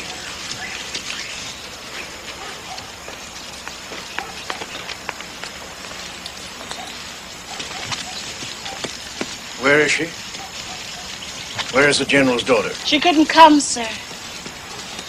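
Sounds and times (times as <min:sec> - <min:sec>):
steady film hiss: 0:00.0 - 0:15.0.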